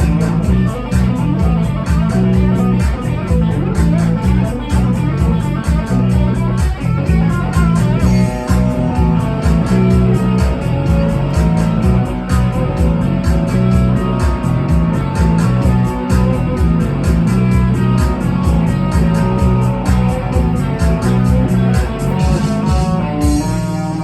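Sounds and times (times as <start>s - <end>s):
drum beat: 0.0s - 23.9s
bass guitar: 0.0s - 24.0s
electric guitar: 0.0s - 24.0s.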